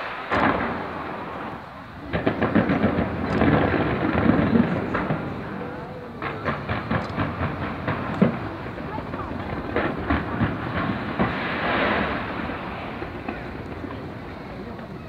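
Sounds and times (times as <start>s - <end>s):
firework bang: 0.0s - 15.0s
fireworks popping and crackling: 0.0s - 15.0s.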